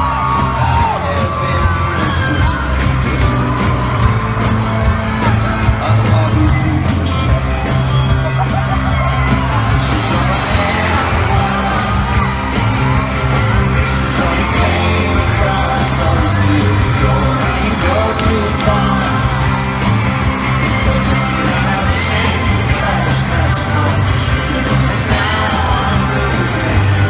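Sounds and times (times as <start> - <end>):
live folk-rock band music: 0.0 - 27.0
voices yelling and whooping: 0.0 - 27.0.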